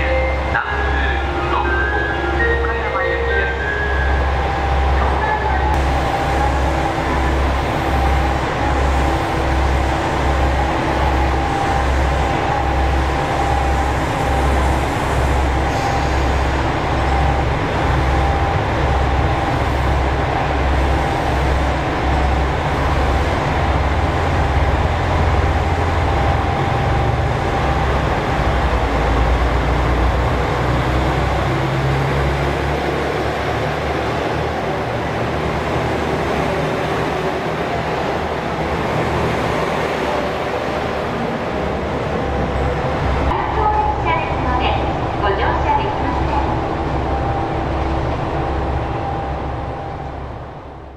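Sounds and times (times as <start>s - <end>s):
diesel railcar engine: 0.0s - 50.9s
train pulling away: 0.0s - 50.9s.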